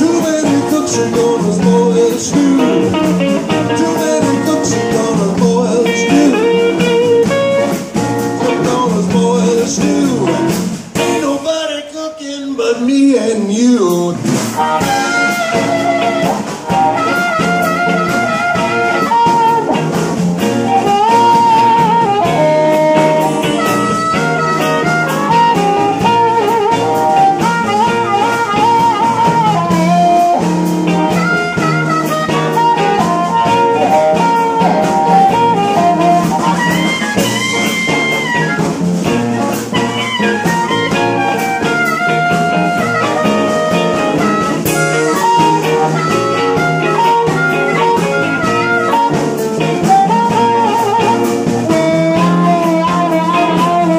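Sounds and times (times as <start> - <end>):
amplified blues harmonica solo: 0.0 - 11.3, 14.5 - 53.9
upright bass: 0.0 - 11.9, 12.6 - 53.9
drums: 0.0 - 53.9
electric guitars: 0.0 - 53.9.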